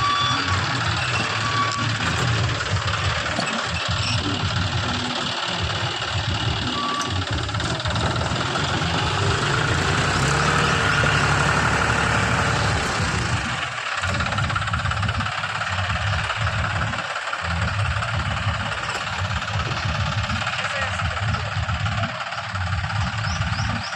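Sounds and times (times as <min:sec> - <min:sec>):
diesel tractor engine running: 0:00.0 - 0:23.9.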